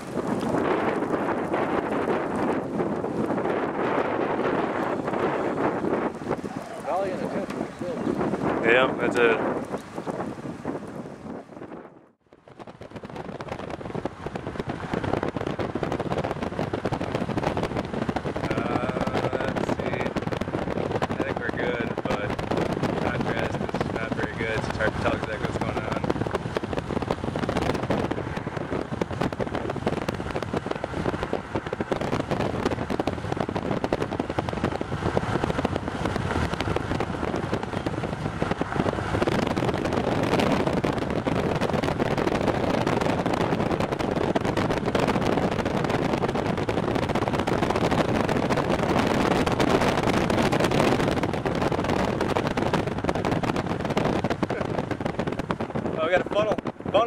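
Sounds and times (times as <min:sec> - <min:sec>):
gusty wind buffeting microphone: 0:00.0 - 0:57.0.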